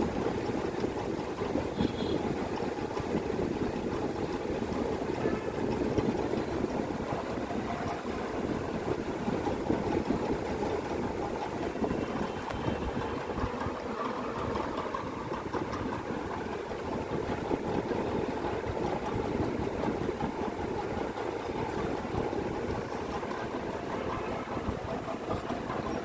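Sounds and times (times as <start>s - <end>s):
steady mechanical rumble: 0.0s - 26.0s.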